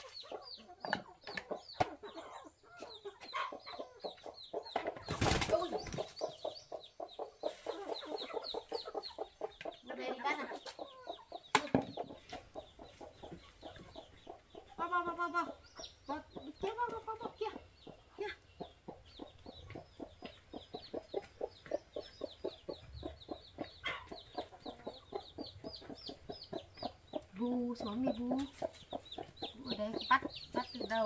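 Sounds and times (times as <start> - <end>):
chicks peeping: 0.0 - 31.0
hen clucking: 0.0 - 31.0.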